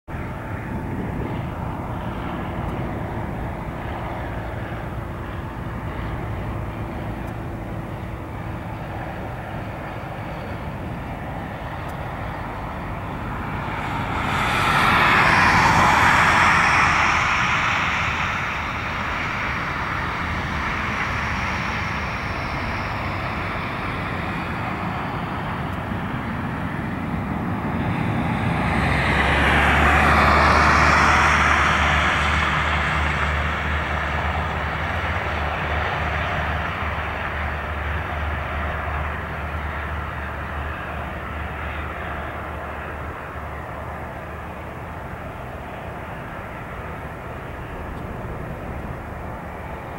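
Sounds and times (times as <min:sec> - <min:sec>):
propeller plane engine: 0:00.1 - 0:49.9.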